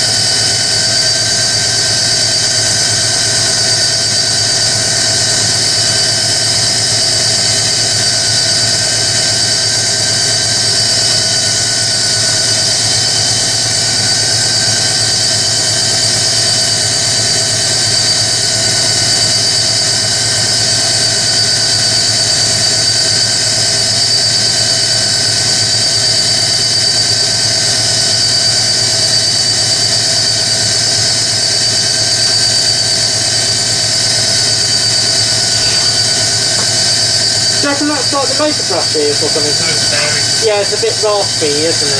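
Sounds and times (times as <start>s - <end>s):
washing machine spinning whine: 0.0s - 41.9s.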